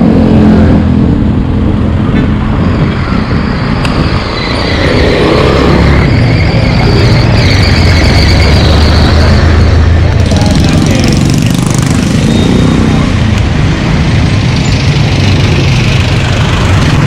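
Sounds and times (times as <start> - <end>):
street traffic engines rumbling: 0.0 - 17.0.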